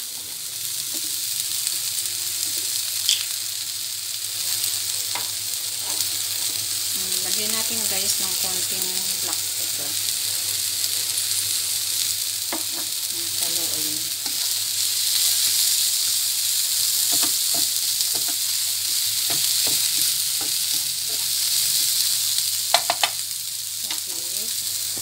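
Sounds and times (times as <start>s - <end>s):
vegetables sizzling in frying pan: 0.0s - 25.0s.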